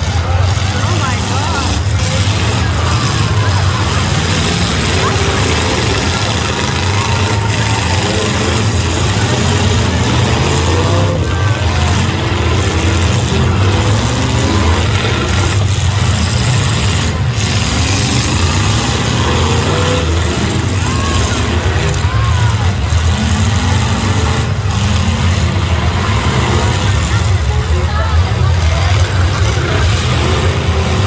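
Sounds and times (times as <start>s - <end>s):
car engines revving: 0.0s - 31.0s
crowd voices: 0.0s - 31.0s.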